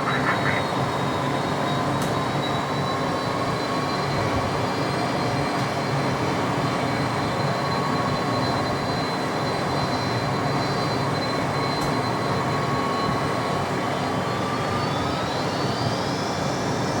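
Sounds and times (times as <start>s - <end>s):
jet engines at takeoff power: 0.0s - 17.0s.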